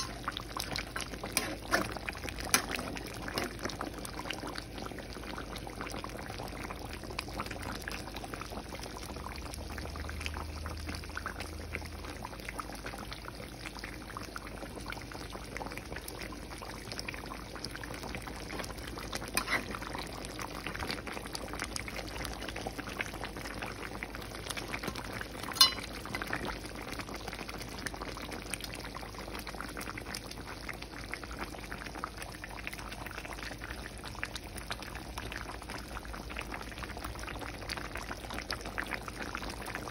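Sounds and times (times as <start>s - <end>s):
curry bubbling in a pan: 0.0s - 39.9s.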